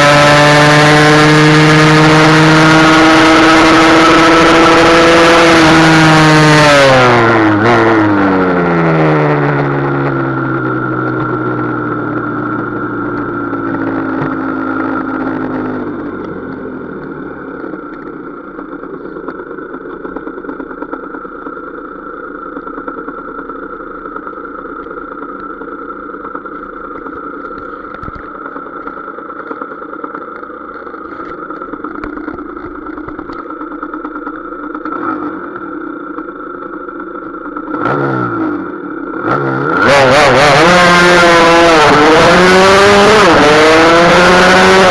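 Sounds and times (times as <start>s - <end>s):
two-stroke engine revving: 0.0s - 21.0s, 24.7s - 44.9s.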